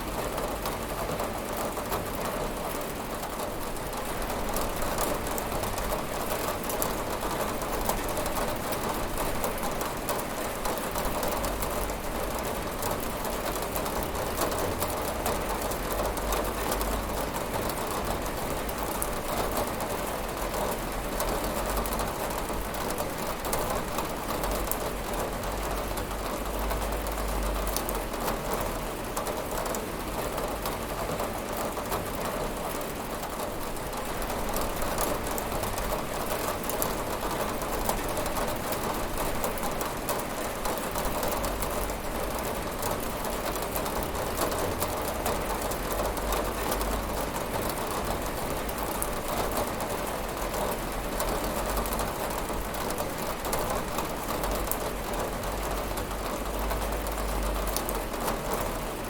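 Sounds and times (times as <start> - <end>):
rain pattering on a window: 0.0 - 59.0.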